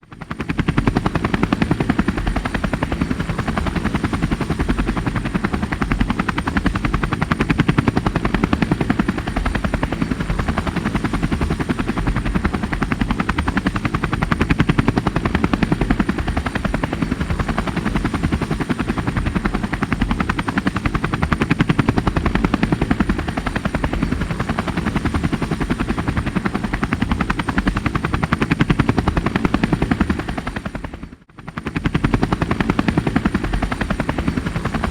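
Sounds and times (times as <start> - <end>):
helicopter rotor chopping: 0.1 - 34.9.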